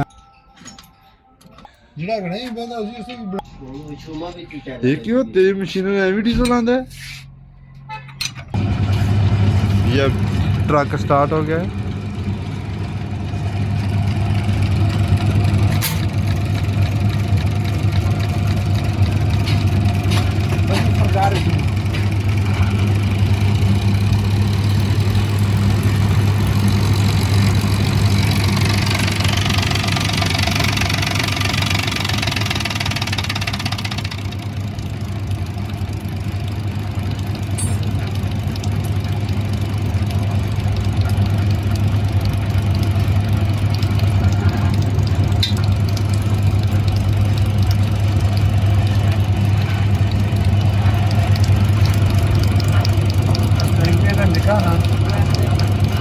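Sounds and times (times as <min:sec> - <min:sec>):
diesel engine idling: 0:08.5 - 0:56.0.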